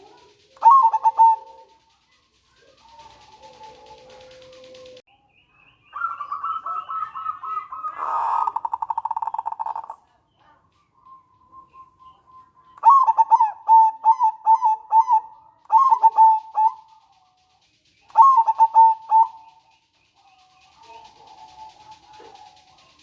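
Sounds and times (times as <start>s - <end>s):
dove staccato cooing: 0.0s - 5.0s, 6.3s - 23.0s
dove trilling rattle: 0.0s - 5.1s, 5.9s - 23.0s.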